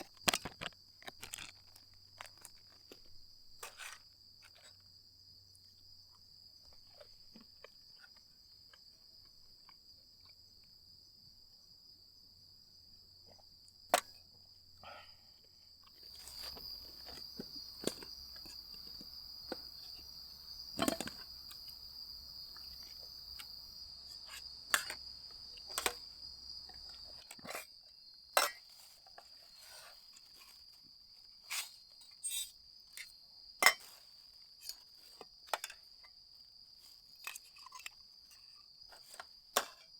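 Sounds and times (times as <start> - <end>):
insects trilling: 0.0 - 13.9, 14.5 - 39.9.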